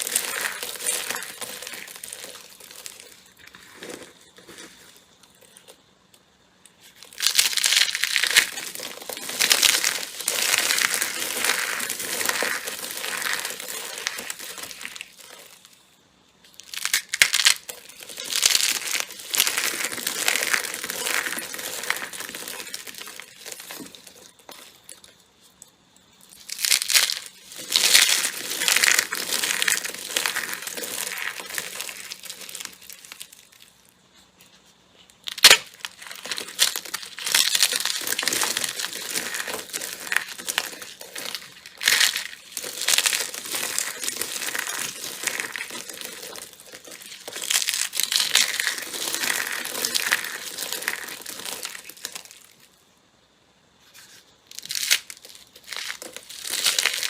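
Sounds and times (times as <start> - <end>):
slime squeezed wet crackling: 0.0 - 5.8, 6.7 - 15.8, 16.5 - 25.1, 26.2 - 33.8, 35.2 - 52.6, 54.5 - 57.0.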